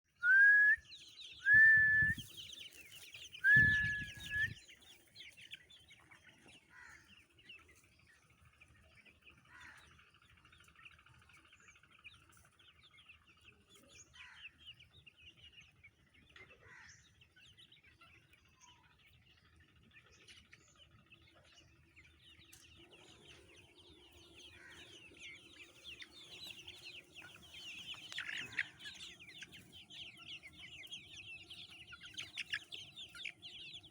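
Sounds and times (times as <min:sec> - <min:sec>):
chickens clucking and chirping: 0:00.1 - 0:33.9.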